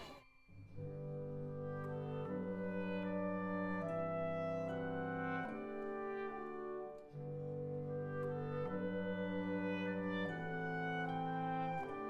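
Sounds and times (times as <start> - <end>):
slow held instrumental chords: 0.0 - 12.0.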